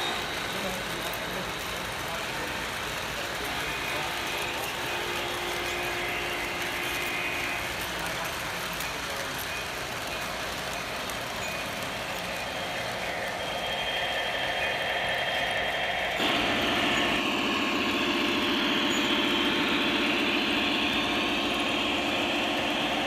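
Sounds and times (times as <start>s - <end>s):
crowd chatter: 0.0s - 23.0s
model locomotive engine sound: 0.0s - 23.0s
model train wheels rumbling: 0.0s - 23.0s.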